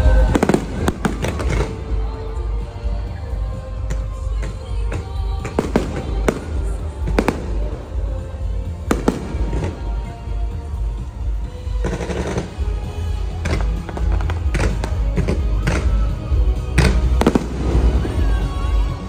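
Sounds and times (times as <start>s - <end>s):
fireworks bangs: 0.0s - 2.7s, 3.8s - 19.0s
fireworks crackling: 0.0s - 19.0s
show music: 0.0s - 19.0s.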